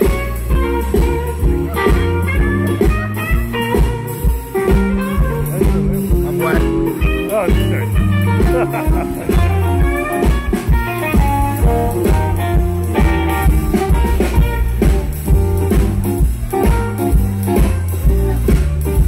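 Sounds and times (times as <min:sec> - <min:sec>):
drum kit: 0:00.0 - 0:19.0
electric bass: 0:00.0 - 0:19.0
electric guitar lead: 0:00.0 - 0:19.0.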